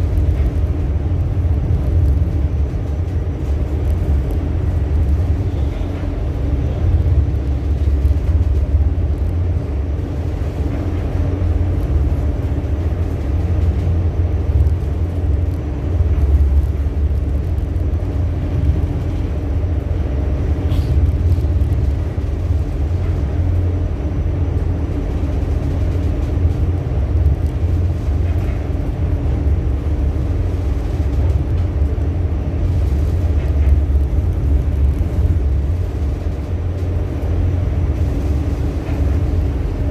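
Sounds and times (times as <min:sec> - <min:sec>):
constant hum: 0:00.0 - 0:39.9
deep engine rumble: 0:00.0 - 0:39.9.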